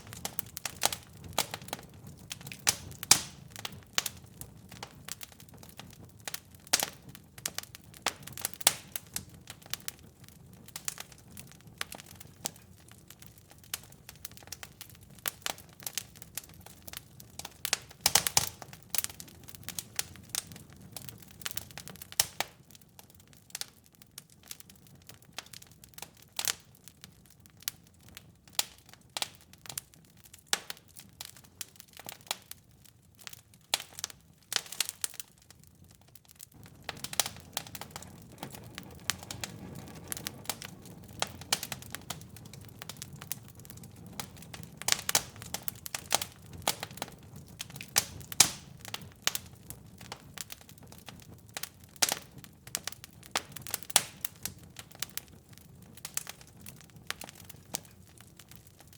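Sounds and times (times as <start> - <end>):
low rumble of flames: 0.0 - 58.9
wood fire crackling and popping: 0.0 - 58.9.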